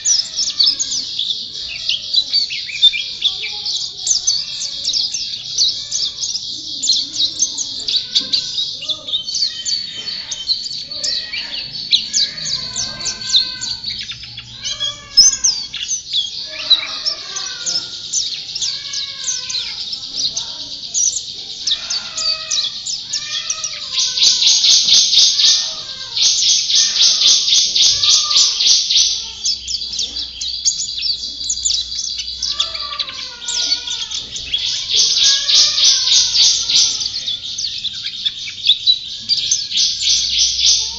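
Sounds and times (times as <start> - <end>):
bird twittering song with trills: 0.0 - 40.9
lower-pitched chirping calls: 0.0 - 40.9.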